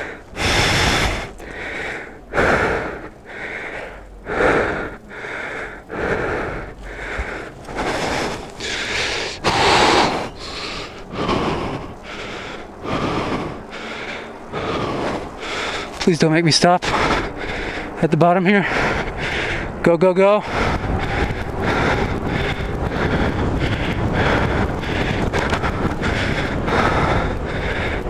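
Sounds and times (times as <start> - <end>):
person panting hard: 0.0 - 28.0.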